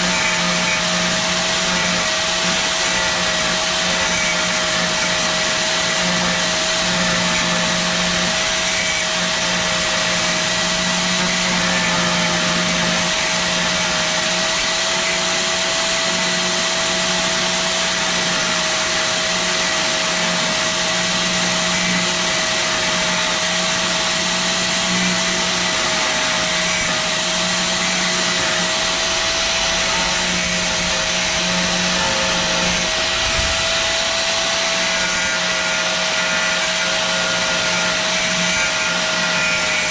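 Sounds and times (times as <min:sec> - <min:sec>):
cut-off tool grinding metal: 0:00.0 - 0:39.9.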